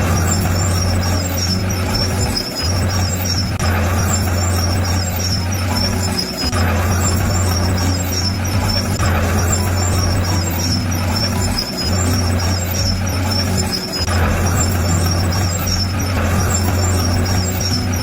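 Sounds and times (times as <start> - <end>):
bulldozer diesel engine humming: 0.0 - 18.0.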